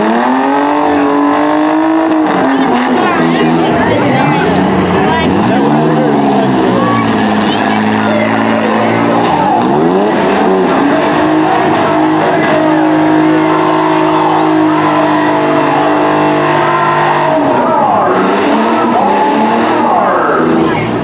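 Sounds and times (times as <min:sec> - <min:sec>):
truck engines revving hard: 0:00.0 - 0:21.0.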